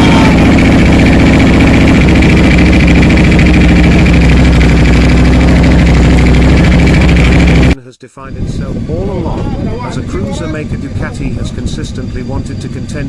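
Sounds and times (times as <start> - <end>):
motorcycle engine idling: 0.0 - 7.8, 8.4 - 13.0.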